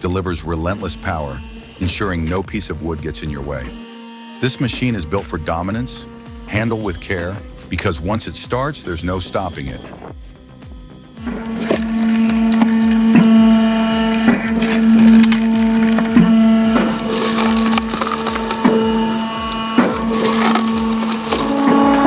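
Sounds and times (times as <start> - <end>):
log splitter motor hum: 0.0 - 22.0.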